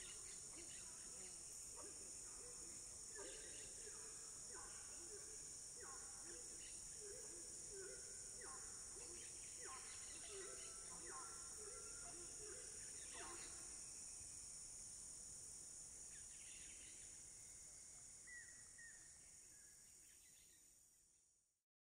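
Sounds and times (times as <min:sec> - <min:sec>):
drone of cicadas and insects: 0:00.0 - 0:21.5.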